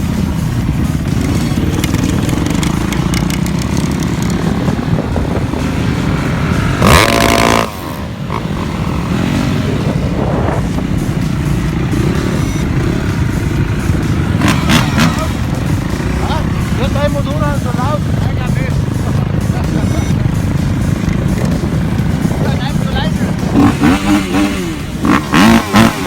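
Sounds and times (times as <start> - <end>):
motorcycle engines running: 0.0 - 26.0.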